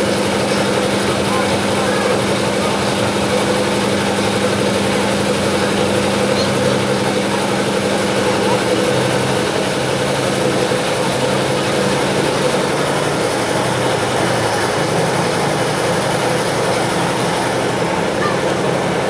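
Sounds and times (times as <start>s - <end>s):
steady engine hum: 0.0s - 19.0s.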